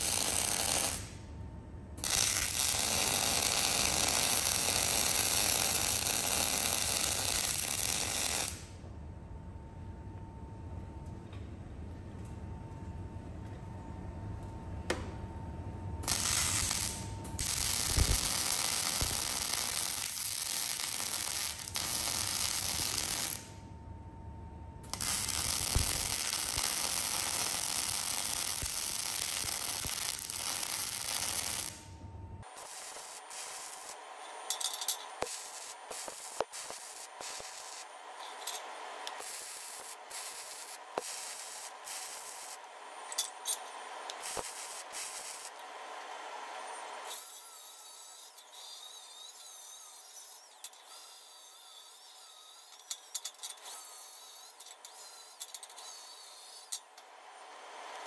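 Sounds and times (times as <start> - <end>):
arc welding crackling hiss: 0.0 - 1.2, 2.0 - 8.8, 16.0 - 23.6, 24.9 - 58.0.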